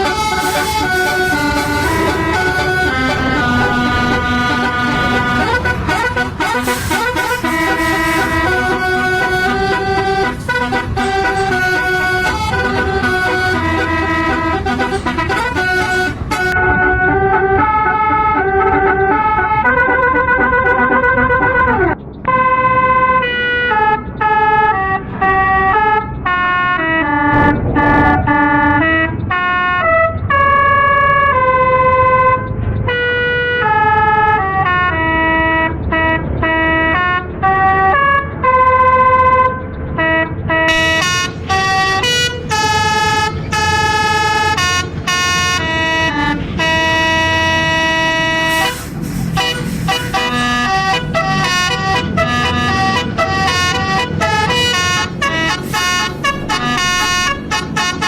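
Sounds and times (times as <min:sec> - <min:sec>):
bus horn playing a tune: 0:00.0 - 0:58.0.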